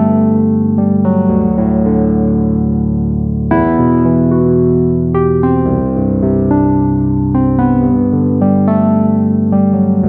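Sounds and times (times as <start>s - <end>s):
keyboard music: 0.0s - 10.0s.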